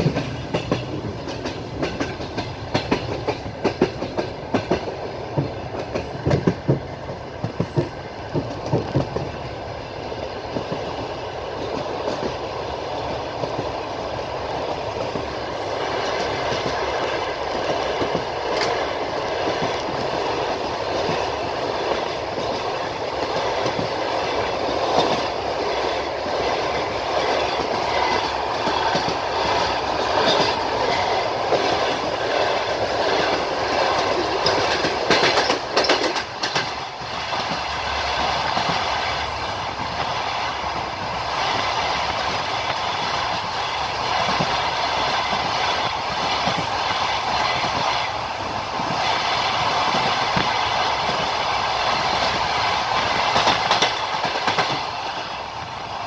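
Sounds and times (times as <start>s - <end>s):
train rolling rumble and hiss: 0.0s - 56.0s
train wheels clacking on rails: 0.0s - 56.0s.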